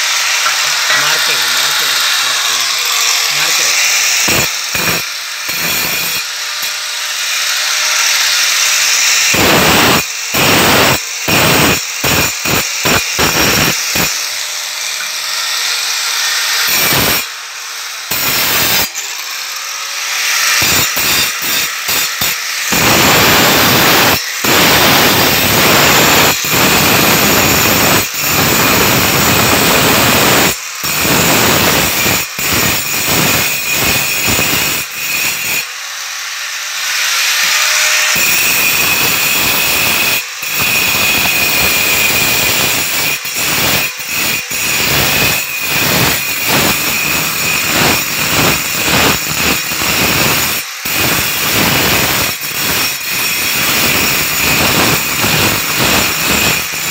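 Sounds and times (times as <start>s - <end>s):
angle grinder cutting stone: 0.0s - 56.9s
grinder running free whine: 0.0s - 56.9s.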